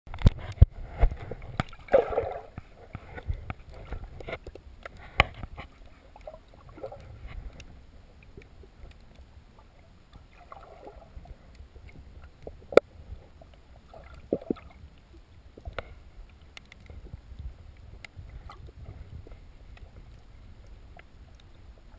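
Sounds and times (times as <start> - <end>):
low underwater rumble: 0.1 - 21.9
water gurgling: 0.1 - 21.9.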